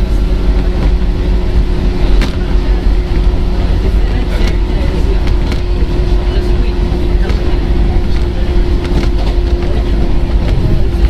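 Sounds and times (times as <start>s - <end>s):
train motor rumble and hum: 0.0s - 11.0s.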